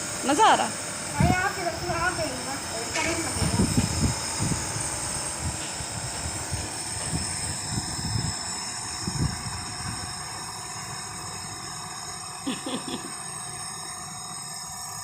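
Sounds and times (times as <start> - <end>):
air compressor humming and hissing: 0.0 - 15.0.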